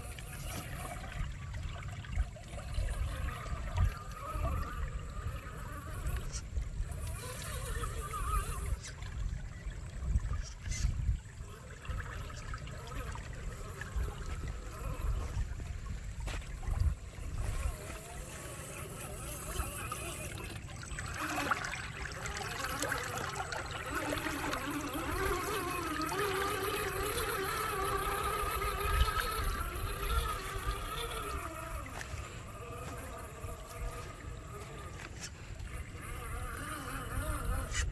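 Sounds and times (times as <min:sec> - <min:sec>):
water trickling and splashing: 0:00.0 - 0:37.9
wavering whine: 0:00.0 - 0:37.9.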